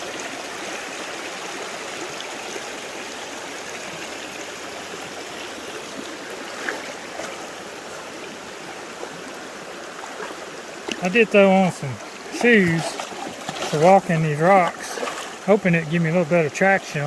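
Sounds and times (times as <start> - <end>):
creek water flowing over rocks: 0.0 - 17.0.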